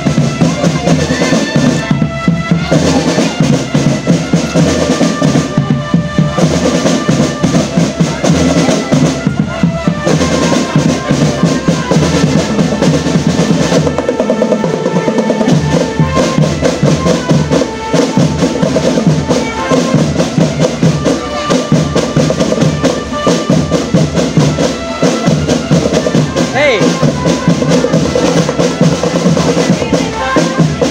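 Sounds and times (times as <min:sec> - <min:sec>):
snare and bass drums: 0:00.0 - 0:30.9.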